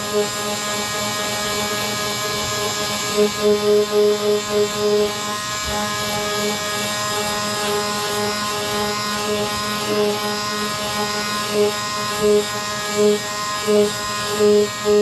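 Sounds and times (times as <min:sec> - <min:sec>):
power sander grinding: 0:00.0 - 0:15.0.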